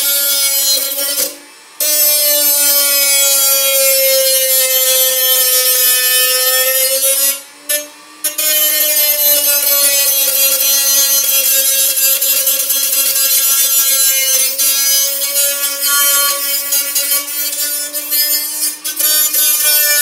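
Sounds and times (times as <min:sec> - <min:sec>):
rotary tool grinding metal can: 0:00.0 - 0:20.0.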